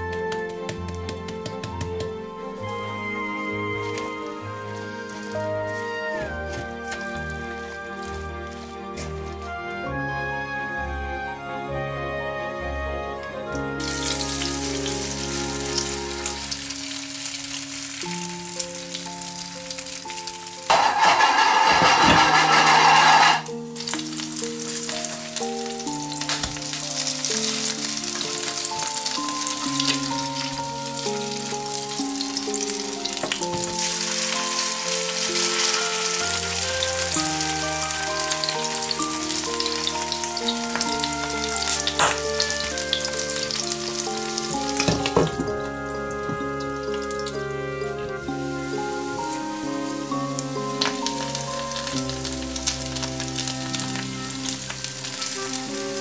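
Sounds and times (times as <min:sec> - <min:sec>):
soft background music: 0:00.0 - 0:56.0
potato pancakes sizzling in oil: 0:02.5 - 0:09.1, 0:13.8 - 0:56.0.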